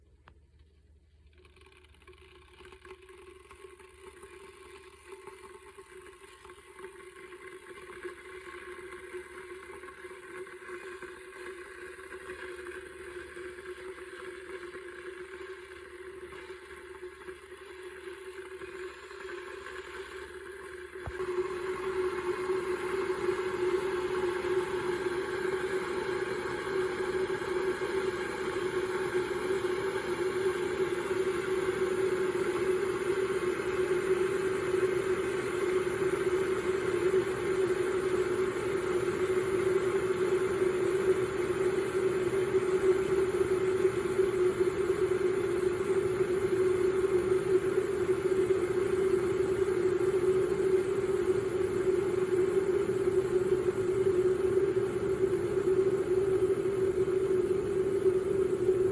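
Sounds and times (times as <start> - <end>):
kettle heating water: 0.0 - 58.9
rumble and hiss of water: 2.0 - 58.9.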